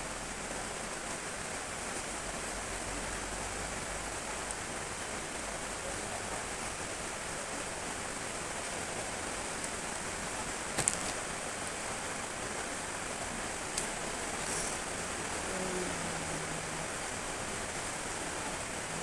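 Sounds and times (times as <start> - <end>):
room noise hiss: 0.0 - 19.0.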